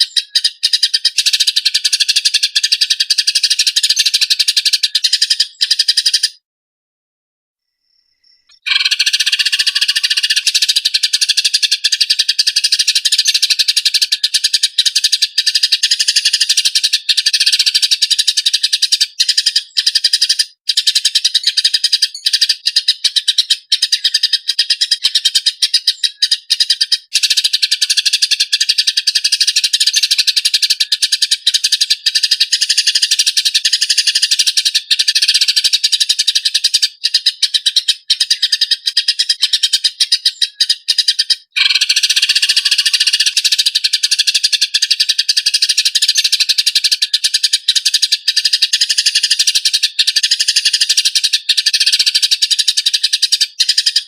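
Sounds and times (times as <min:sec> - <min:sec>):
sparrows chirping chatter: 0:00.0 - 0:06.4, 0:08.2 - 0:54.0.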